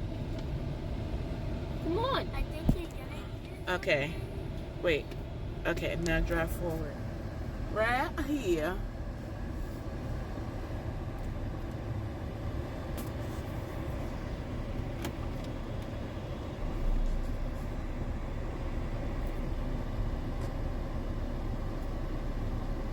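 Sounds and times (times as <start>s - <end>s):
car rumble inside cabin: 0.0s - 22.9s.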